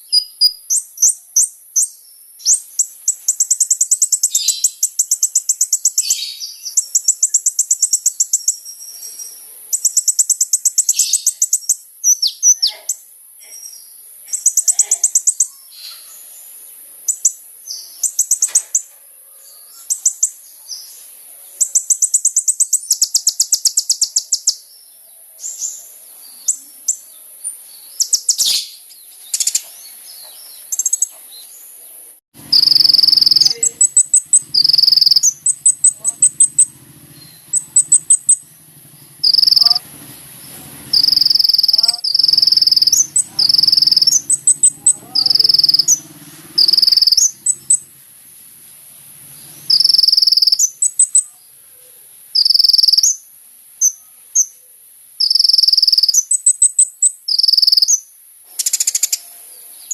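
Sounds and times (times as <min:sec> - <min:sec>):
sunbird song: 0:00.0 - 0:59.9.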